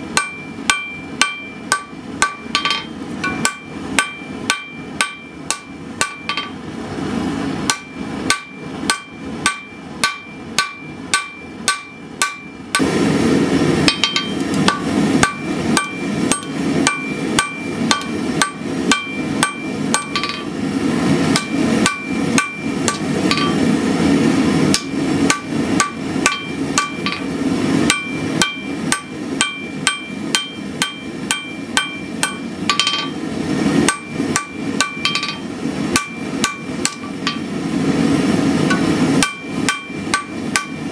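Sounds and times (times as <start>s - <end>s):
hammer striking steel on anvil: 0.0s - 6.6s, 7.6s - 12.9s, 13.8s - 20.6s, 21.3s - 23.8s, 24.7s - 33.2s, 33.8s - 37.5s, 38.6s - 40.9s.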